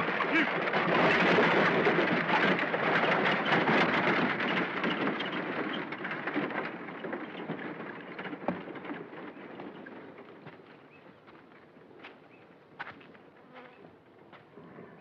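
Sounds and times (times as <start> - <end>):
horses galloping on dirt: 0.0 - 15.0.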